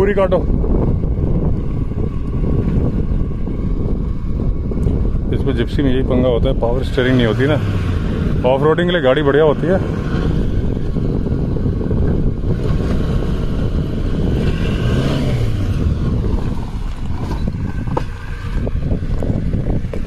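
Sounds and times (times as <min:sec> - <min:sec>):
car engine running at low speed: 0:00.0 - 0:20.0.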